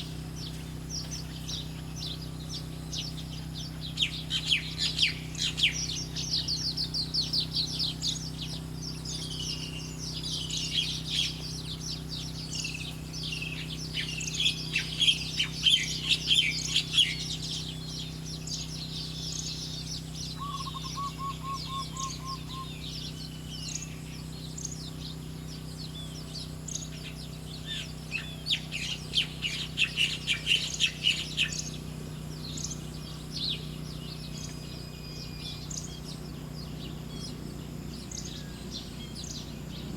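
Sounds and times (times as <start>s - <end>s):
faint steady hum: 0.0s - 39.9s
low bird trill: 0.0s - 39.9s
songbirds twittering: 0.0s - 39.9s.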